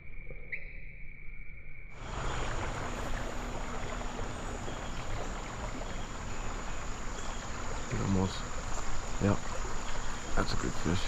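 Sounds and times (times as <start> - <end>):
creek water running: 2.0 - 11.0.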